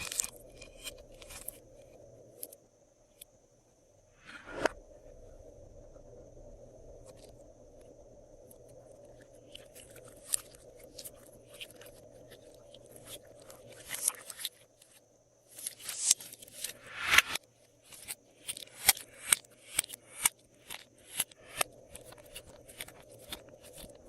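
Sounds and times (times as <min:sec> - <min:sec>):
small objects crackling and clicking: 0:00.0 - 0:03.3, 0:07.0 - 0:24.0
faint steady hum: 0:00.0 - 0:24.0.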